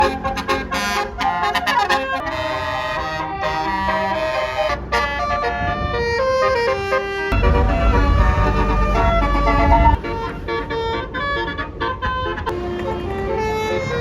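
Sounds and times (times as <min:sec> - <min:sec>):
bus air horn playing a melody: 0:00.0 - 0:14.0.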